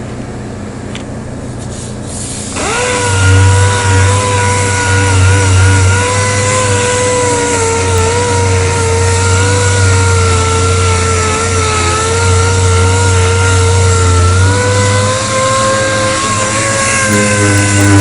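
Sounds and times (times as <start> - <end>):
hiss of sanding: 1.7 - 18.0
sander whining: 2.5 - 18.0.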